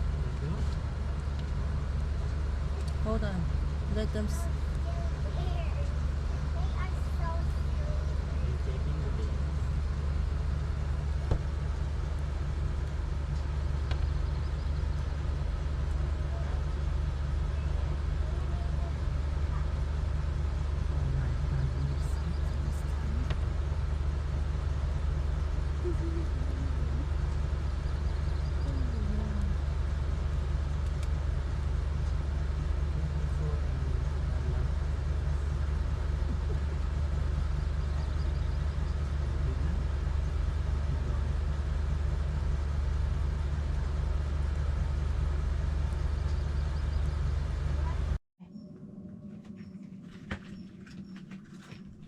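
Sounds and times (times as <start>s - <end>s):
low rumble of vehicle in motion: 0.0s - 52.0s.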